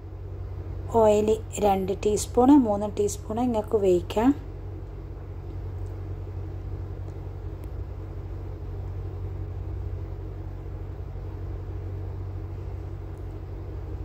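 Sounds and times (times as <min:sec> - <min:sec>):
machinery humming and rumbling: 0:00.0 - 0:14.0.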